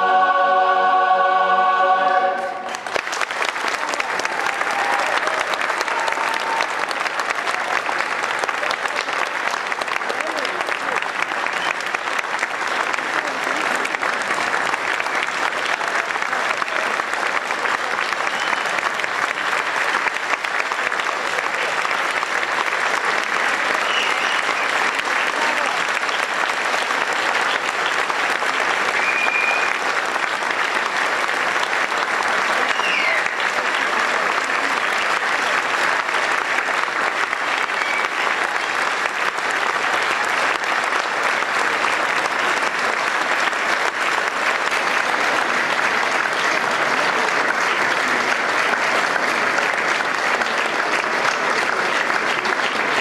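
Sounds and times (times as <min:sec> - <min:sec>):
audience applauding: 0:00.0 - 0:53.0.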